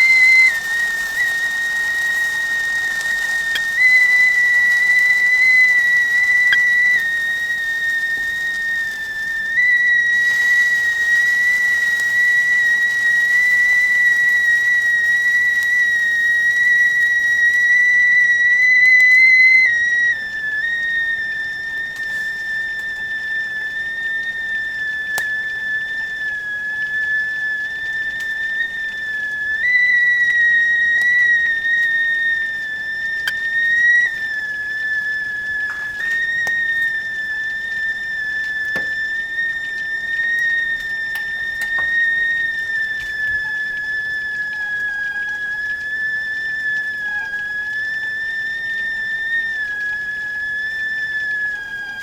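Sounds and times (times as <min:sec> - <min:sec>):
kettle whistling: 0:00.0 - 0:52.0.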